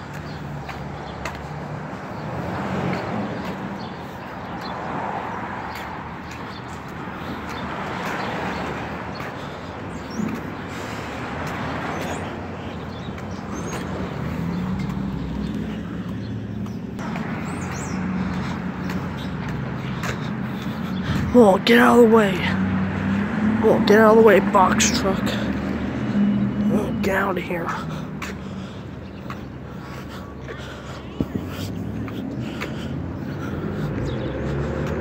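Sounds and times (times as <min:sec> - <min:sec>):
street traffic passing: 0:00.0 - 0:35.0.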